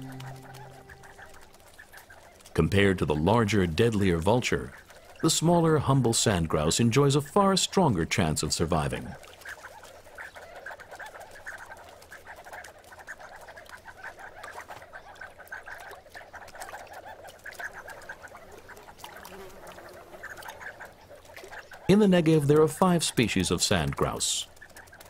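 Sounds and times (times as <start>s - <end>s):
flock of birds chattering: 0.0s - 25.0s.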